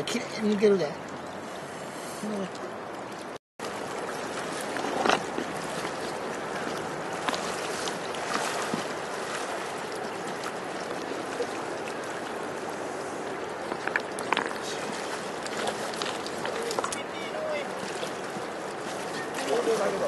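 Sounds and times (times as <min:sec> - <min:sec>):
river running over stones: 0:00.0 - 0:20.0
people wading splashes: 0:00.4 - 0:20.0.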